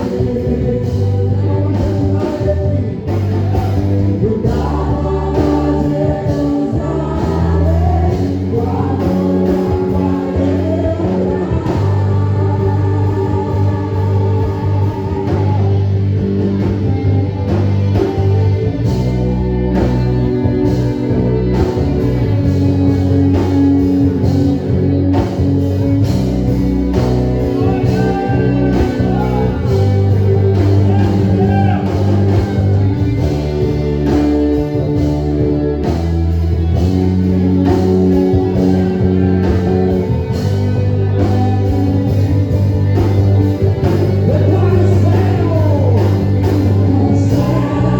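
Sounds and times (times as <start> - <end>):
person singing: 0.0 - 47.9
praise band music: 0.0 - 47.9.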